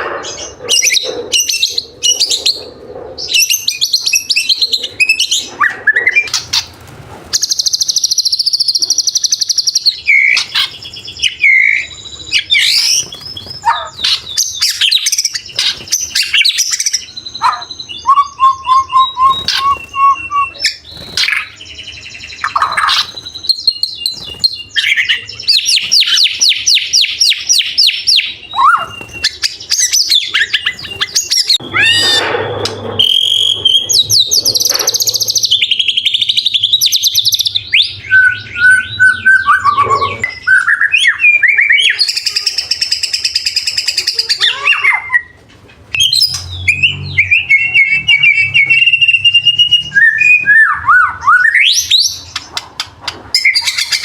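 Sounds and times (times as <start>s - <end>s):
songbird singing: 7.4s - 54.0s.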